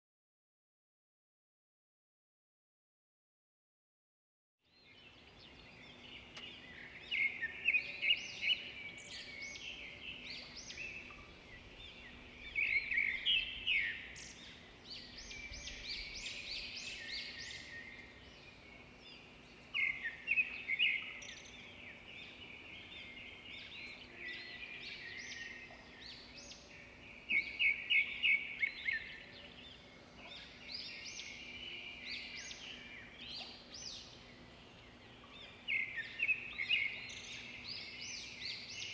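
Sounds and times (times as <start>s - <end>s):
small birds chirping and trilling: 4.6s - 38.9s.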